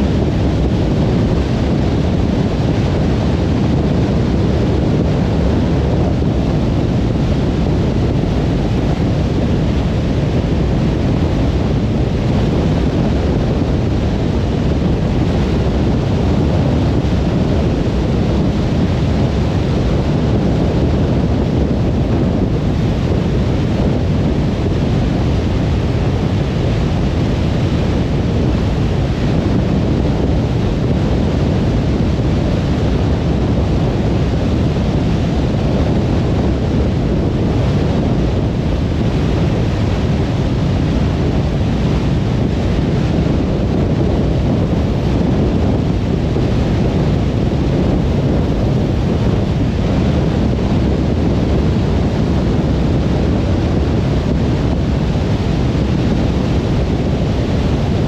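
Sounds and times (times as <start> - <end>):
car road noise on highway: 0.0 - 58.0.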